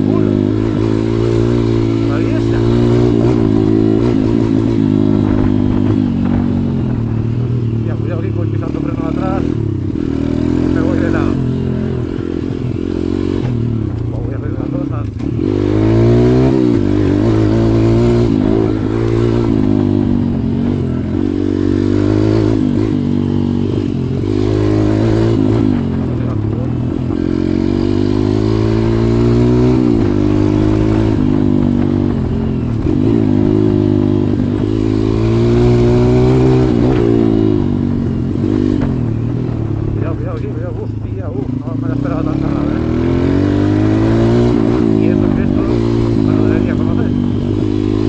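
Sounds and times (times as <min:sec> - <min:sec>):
motorbike engine revving: 0:00.0 - 0:48.0.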